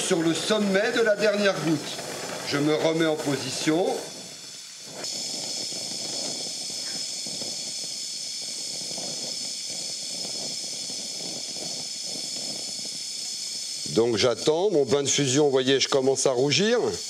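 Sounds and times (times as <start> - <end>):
welding torch flame hissing: 0.0 - 17.0.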